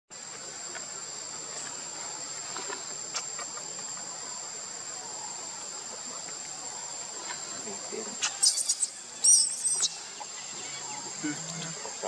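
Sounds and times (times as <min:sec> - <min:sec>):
high-pitched insect chorus: 0:00.1 - 0:12.0.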